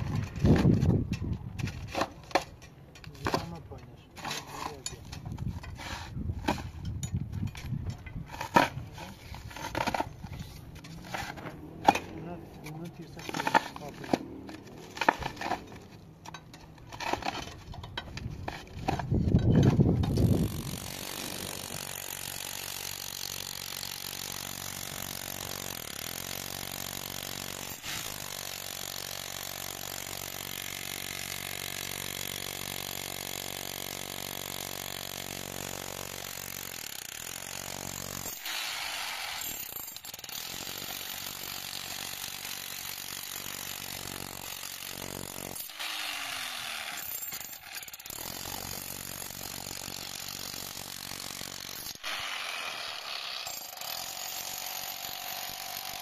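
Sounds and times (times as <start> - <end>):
demolition hammer chiselling concrete: 7.4 - 56.0.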